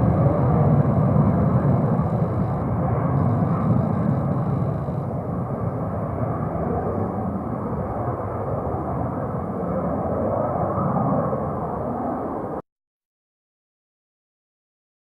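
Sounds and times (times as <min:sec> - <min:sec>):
jet engine rumbling: 0:00.0 - 0:12.6.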